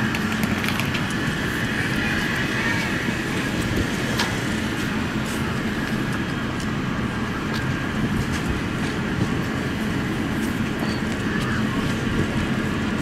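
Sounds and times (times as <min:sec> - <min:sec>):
high-pitched whine: 0:00.0 - 0:13.0
train equipment hum: 0:00.0 - 0:13.0.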